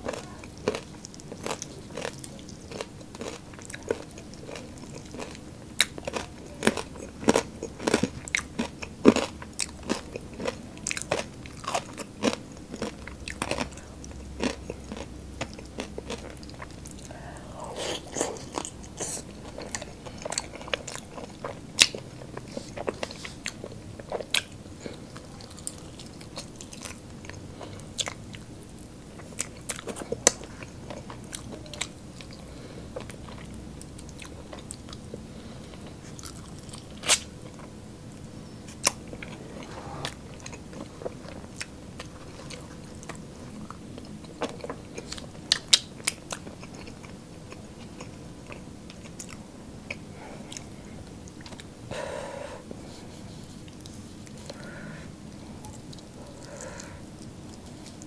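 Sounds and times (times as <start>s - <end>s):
biting and chewing crunchy food: 0.0s - 52.0s, 52.8s - 58.0s.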